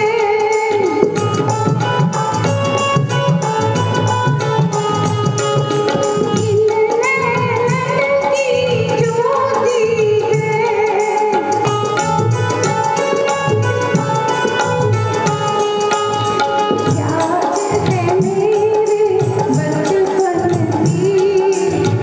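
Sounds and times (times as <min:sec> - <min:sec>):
hand drums: 0:00.0 - 0:22.0
tabla rhythm: 0:00.0 - 0:22.0
woman singing into microphone: 0:00.0 - 0:22.0.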